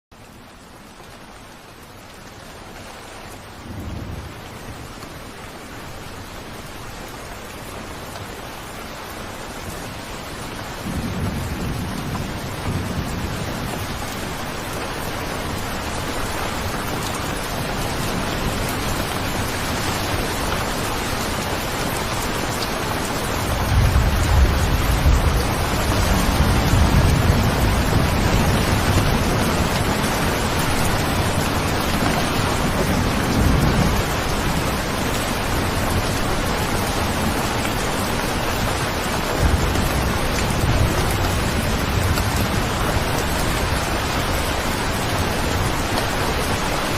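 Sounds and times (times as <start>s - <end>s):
steady rain: 0.1s - 46.9s.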